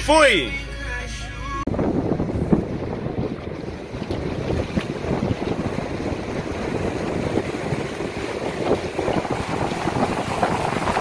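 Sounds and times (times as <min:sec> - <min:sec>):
wind buffeting microphone: 0:01.7 - 0:11.0
ocean surf breaking: 0:02.1 - 0:11.0.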